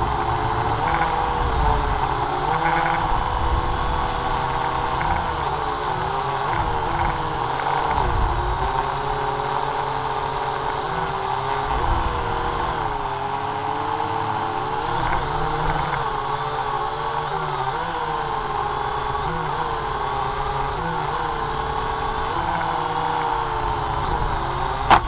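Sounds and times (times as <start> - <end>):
drone propellers buzzing: 0.0 - 25.0.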